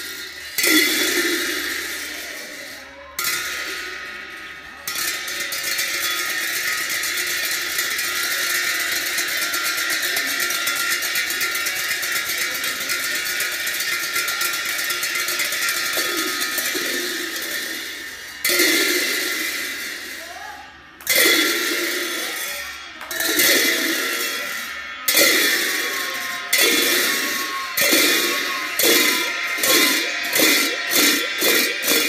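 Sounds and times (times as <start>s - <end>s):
cymbal clashes: 0.0s - 32.0s
cymbal roll: 0.0s - 32.0s.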